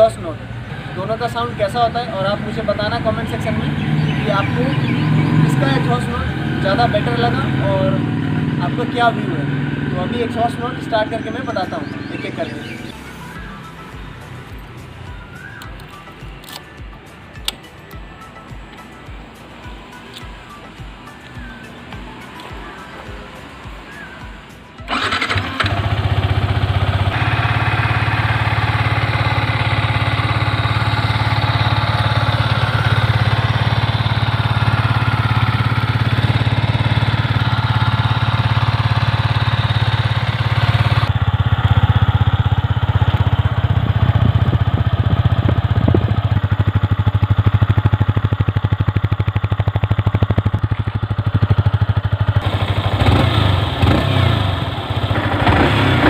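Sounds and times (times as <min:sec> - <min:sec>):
motorcycle engine idling: 0:00.0 - 0:16.2, 0:21.4 - 0:56.0.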